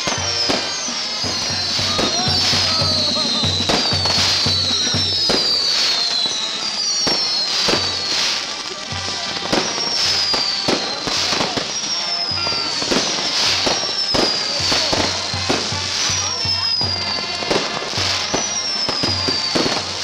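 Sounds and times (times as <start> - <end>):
drumming beats: 0.0 - 6.3, 7.0 - 20.0
fireworks bangs and crackles: 0.0 - 20.0
fireworks whistling: 0.0 - 20.0.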